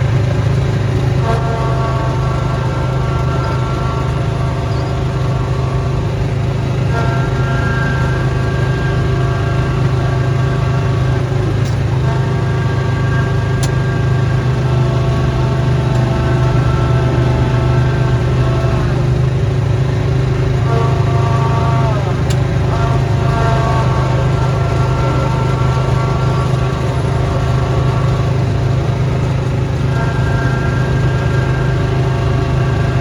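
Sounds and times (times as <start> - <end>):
high-pitched whine: 0.0 - 33.0
snowblower engine running: 0.0 - 33.0.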